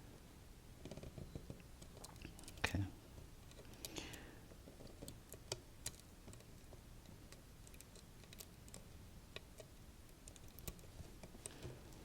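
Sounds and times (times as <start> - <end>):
small clicks and taps: 0.8 - 12.0.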